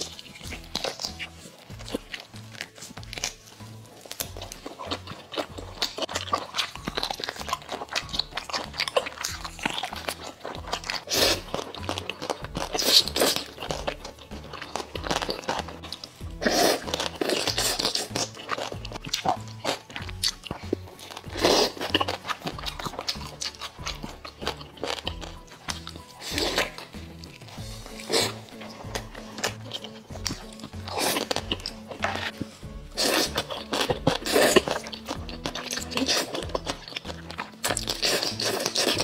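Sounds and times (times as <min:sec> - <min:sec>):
background music with beat: 0:00.0 - 0:39.0
biting and wet chewing: 0:00.0 - 0:39.0
noodle slurping: 0:00.0 - 0:39.0.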